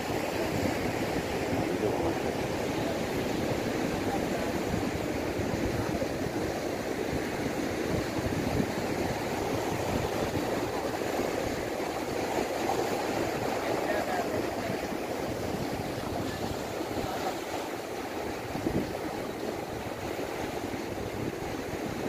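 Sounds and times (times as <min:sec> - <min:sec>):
surf breaking against rocks: 0:00.0 - 0:22.0.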